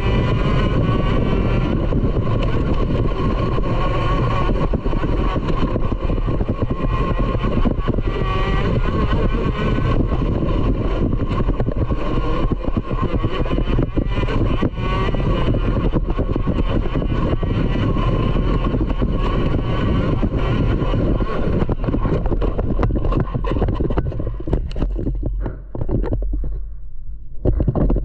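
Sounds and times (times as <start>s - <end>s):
small motorcycle engine idling: 0.0s - 25.8s.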